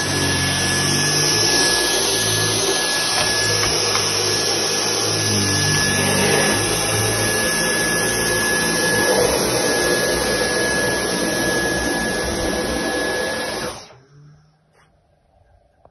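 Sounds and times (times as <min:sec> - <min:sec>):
vacuum cleaner running on carpet: 0:00.0 - 0:14.6.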